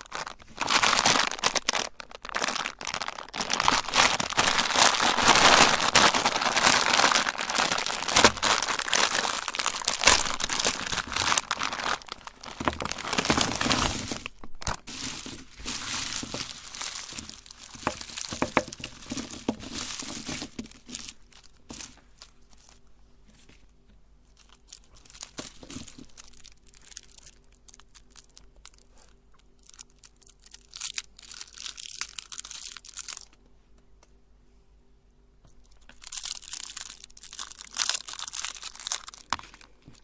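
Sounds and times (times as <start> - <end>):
candy crinkling and crunching: 0.0 - 33.4, 35.5 - 40.0.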